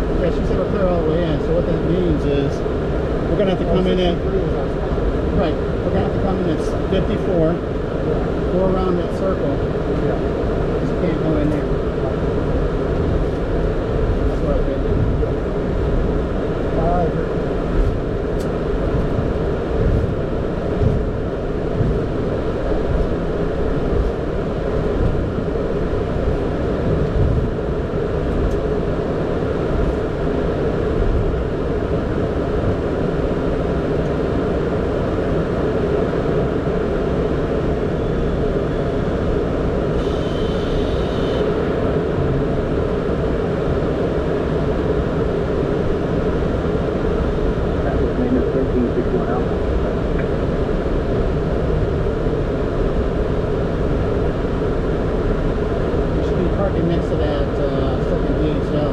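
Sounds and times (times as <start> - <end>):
jet engines idling low rumble: 0.0 - 58.9.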